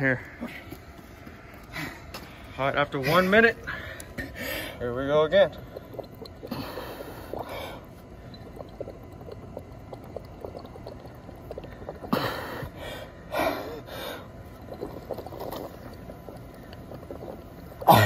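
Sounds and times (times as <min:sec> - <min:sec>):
air bubbling through straw: 0:00.2 - 0:18.0.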